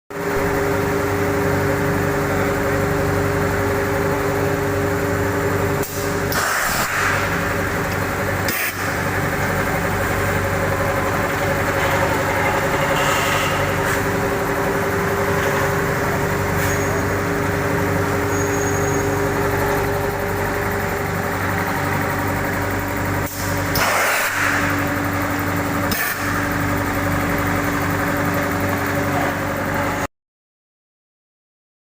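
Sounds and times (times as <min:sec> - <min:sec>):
machine mechanical hum: 0:00.1 - 0:30.1.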